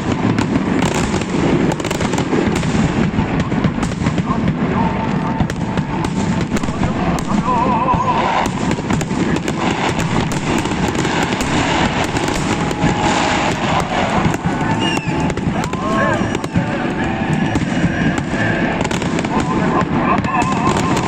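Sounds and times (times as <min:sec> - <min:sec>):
crowd voices: 0:00.0 - 0:21.0
fireworks crackling and bangs: 0:00.0 - 0:21.0
fireworks whistles: 0:00.0 - 0:21.0.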